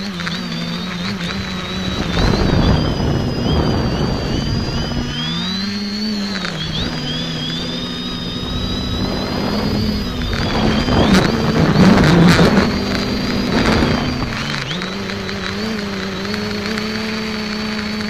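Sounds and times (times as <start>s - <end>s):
drone motors whining: 0.0s - 18.0s
wind buffeting microphone: 1.1s - 17.0s.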